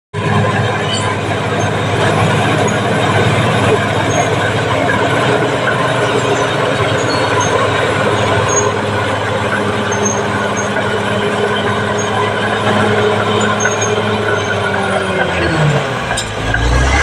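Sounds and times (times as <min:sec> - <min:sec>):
bulldozer diesel engine running: 0:00.1 - 0:17.0.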